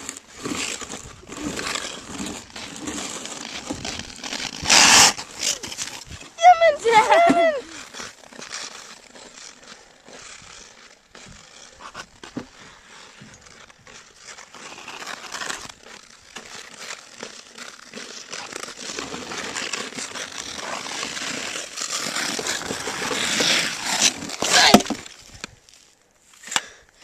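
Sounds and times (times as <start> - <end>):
ice skates scraping on ice: 0.0 - 27.0.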